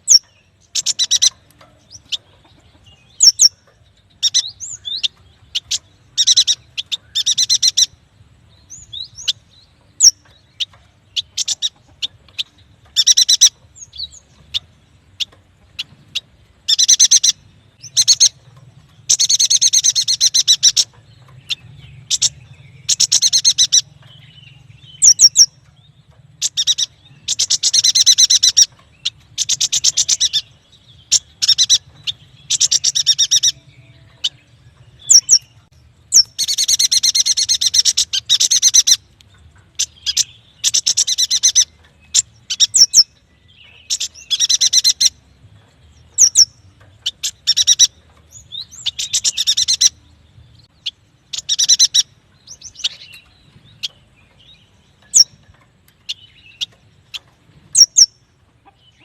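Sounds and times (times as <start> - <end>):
bird buzzy chattering song: 0.0 - 59.0
bird high chirps: 0.0 - 59.0.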